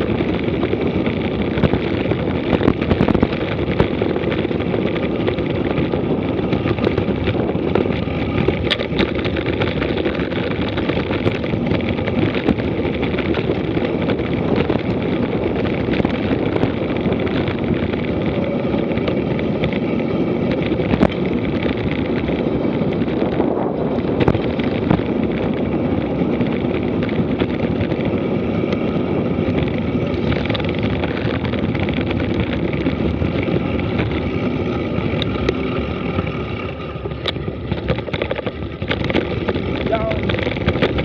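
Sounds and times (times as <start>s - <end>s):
bike knocking over bumps: 0.0s - 41.0s
bike tyres rolling on dirt: 0.0s - 41.0s
wind buffeting microphone: 0.0s - 41.0s.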